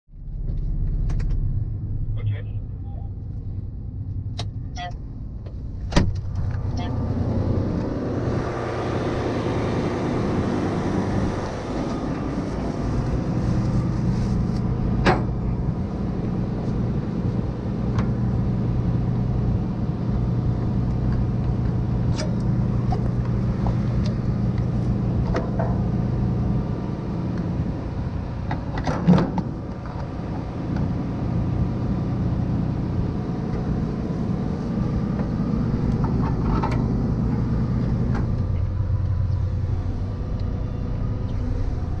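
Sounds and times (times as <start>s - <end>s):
combine harvester engine drone: 0.2s - 42.0s.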